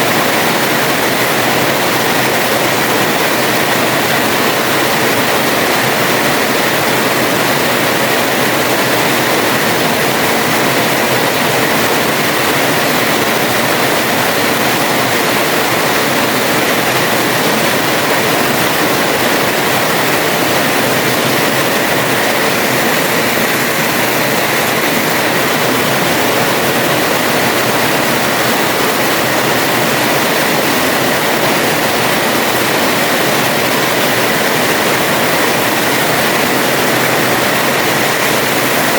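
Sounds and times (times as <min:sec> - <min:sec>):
heavy rain on a terrace: 0:00.0 - 0:38.9.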